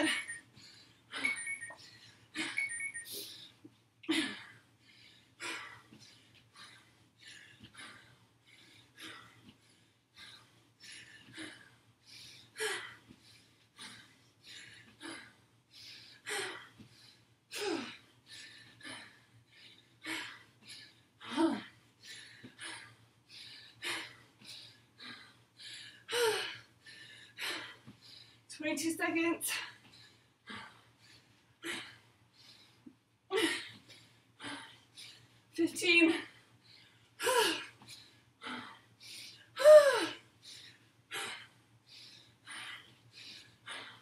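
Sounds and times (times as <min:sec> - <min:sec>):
woman breathing hard: 0:00.0 - 0:28.5, 0:29.4 - 0:35.6, 0:36.2 - 0:44.0.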